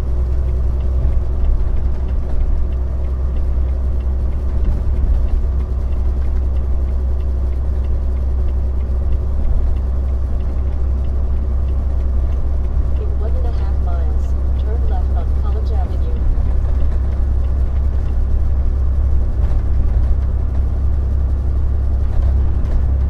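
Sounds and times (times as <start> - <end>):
diesel truck engine drone: 0.0 - 23.0.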